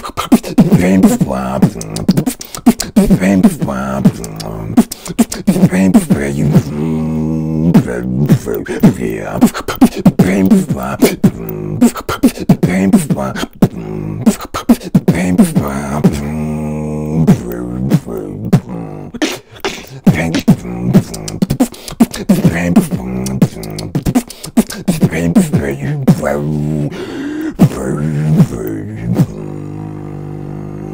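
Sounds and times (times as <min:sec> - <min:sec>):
beatboxing mouth percussion: 0:00.0 - 0:30.9.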